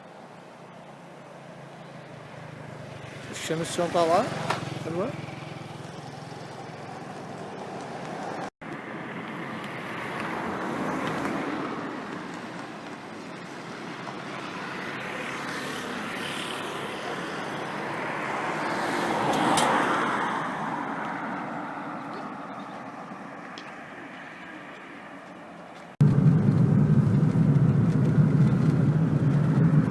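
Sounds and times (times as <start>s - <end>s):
car engine and tyre noise: 0.0s - 29.9s.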